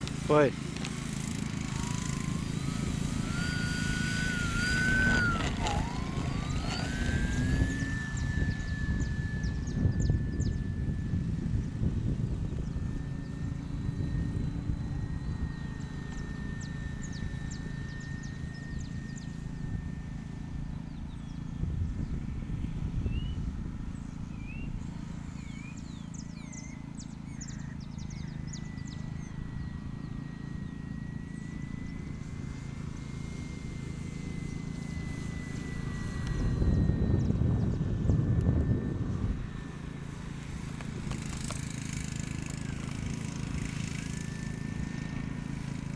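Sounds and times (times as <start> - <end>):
birds chirping: 0.0 - 38.8
model airplane motor whine: 0.0 - 45.9
wind buffeting microphone: 1.0 - 25.2, 27.4 - 45.6.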